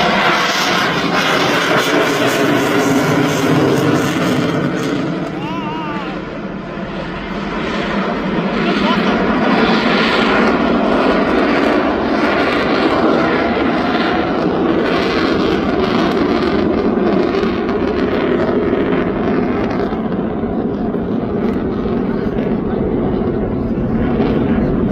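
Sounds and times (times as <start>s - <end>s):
jet engines roaring: 0.0s - 24.9s.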